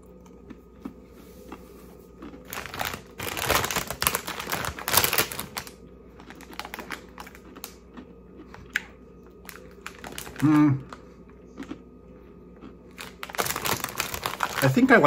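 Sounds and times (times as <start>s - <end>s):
man chewing crunchy snack: 0.0s - 15.0s.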